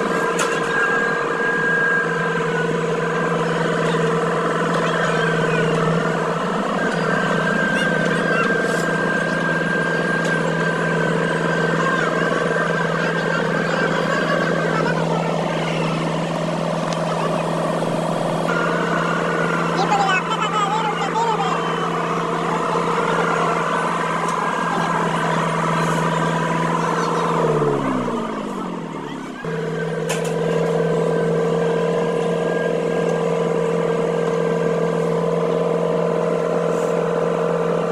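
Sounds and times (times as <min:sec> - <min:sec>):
high whine: 0:00.0 - 0:37.9
paver engine drone: 0:00.0 - 0:37.9.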